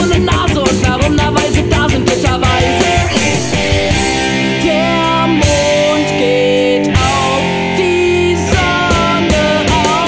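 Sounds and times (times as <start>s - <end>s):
rock band playing punk rock: 0.0s - 10.0s.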